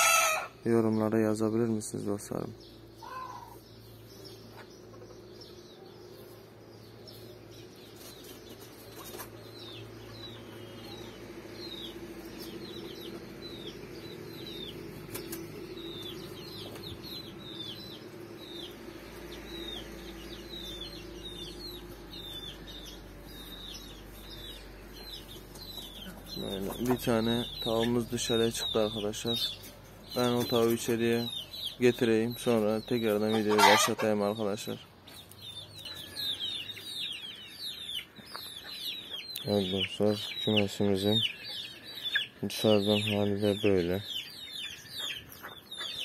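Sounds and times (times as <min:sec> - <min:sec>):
chicks peeping: 0:00.0 - 0:46.0.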